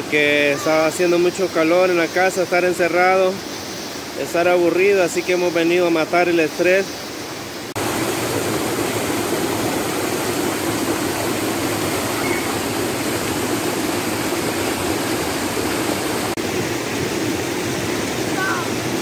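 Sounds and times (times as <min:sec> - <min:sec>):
river rushing over boulders: 0:00.0 - 0:19.0.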